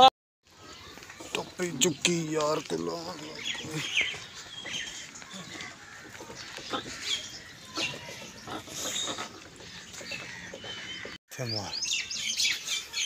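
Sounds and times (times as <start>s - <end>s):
birds chirping: 0.5s - 13.0s.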